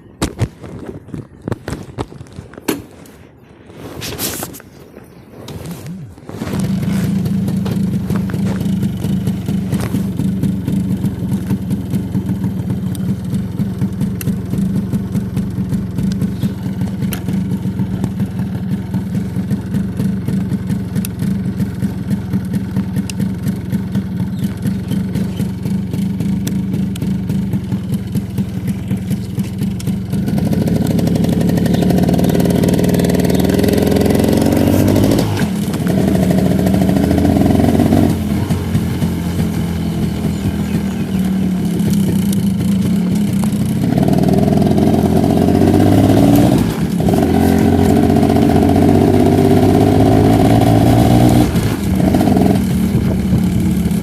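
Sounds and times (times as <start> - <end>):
vehicle engine running: 5.0 - 54.0.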